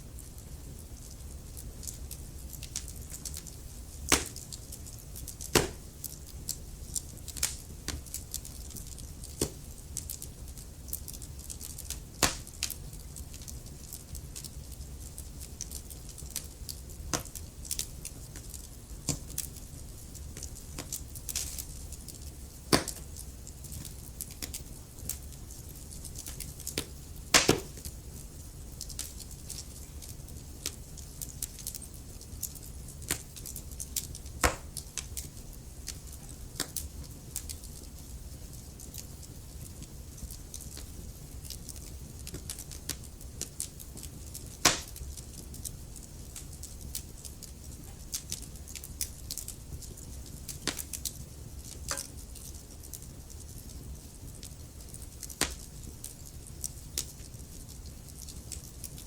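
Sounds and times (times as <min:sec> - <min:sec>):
fire crackling and popping: 0:00.0 - 0:59.0
wood fire rumbling and hissing: 0:00.0 - 0:59.0.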